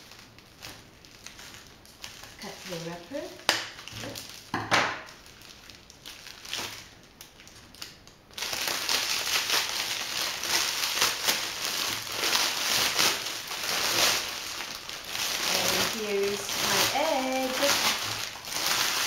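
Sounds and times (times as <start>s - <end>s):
foil crinkling: 0.0s - 19.0s.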